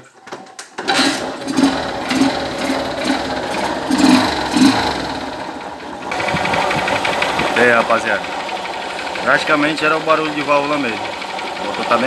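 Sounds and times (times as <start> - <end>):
motorcycle engine idling: 1.4 - 12.0.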